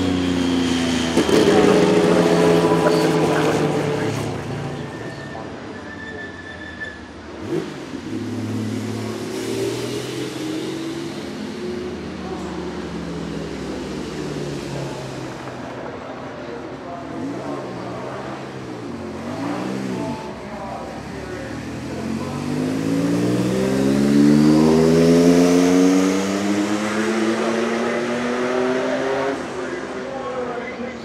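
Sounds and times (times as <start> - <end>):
race car engine: 0.0 - 31.0.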